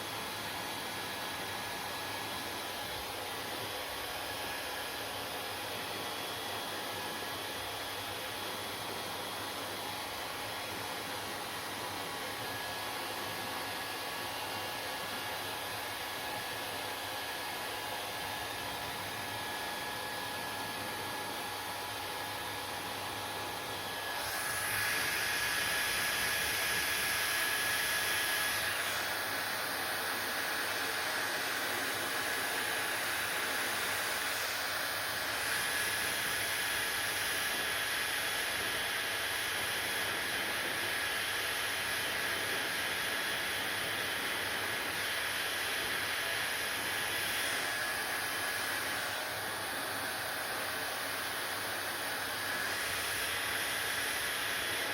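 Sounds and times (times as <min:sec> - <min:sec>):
hair dryer blowing: 0:00.0 - 0:54.9.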